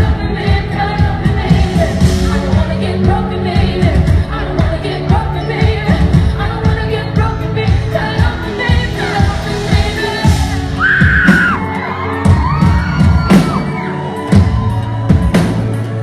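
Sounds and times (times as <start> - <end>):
woman singing: 0.0 - 13.0
bass: 0.0 - 16.0
heavy drums: 0.0 - 16.0
live pop band playing: 0.0 - 16.0.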